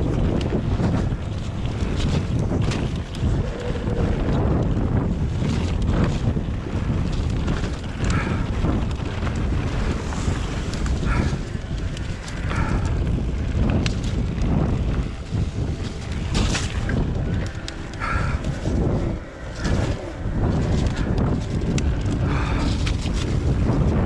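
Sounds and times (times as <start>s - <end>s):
tyre rumble: 0.0s - 24.0s
wind buffeting microphone: 0.0s - 24.0s.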